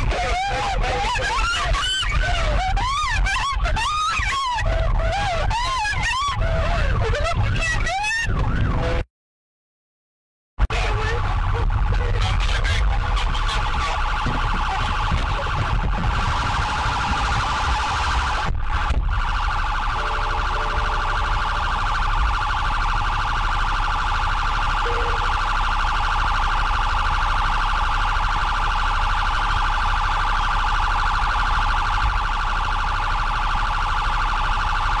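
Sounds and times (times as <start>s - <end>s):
police siren warbling: 0.0s - 9.0s, 10.7s - 35.0s
road and engine rumble: 0.0s - 9.0s, 10.6s - 35.0s.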